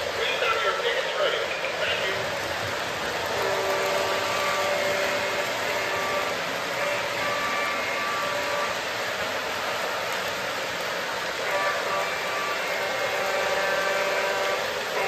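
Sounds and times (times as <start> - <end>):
faint steady tones: 0.0 - 15.0
model train motors whirring: 0.0 - 15.0.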